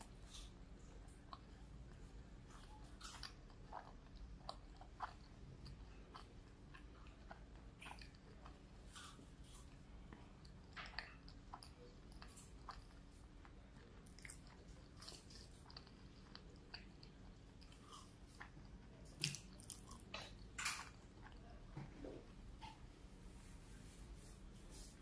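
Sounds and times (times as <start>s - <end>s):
crunchy chewing: 0.0s - 22.8s.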